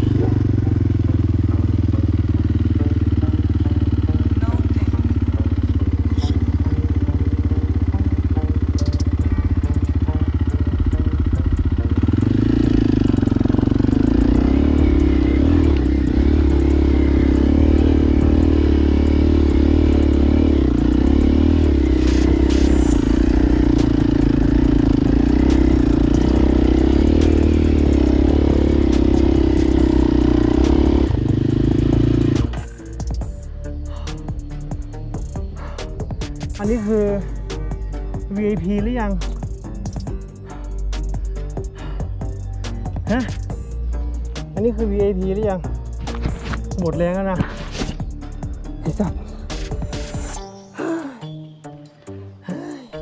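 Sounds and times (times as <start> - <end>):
motorcycle engine running: 0.0 - 50.4.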